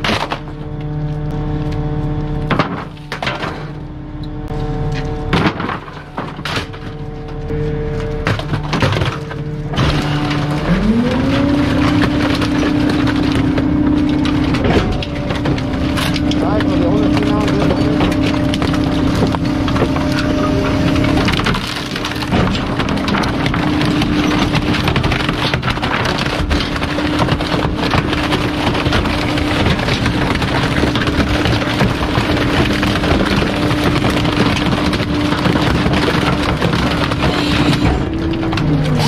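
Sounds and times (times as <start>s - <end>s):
debris crackling and crunching: 0.0s - 39.0s
hydraulic whine: 0.0s - 39.0s.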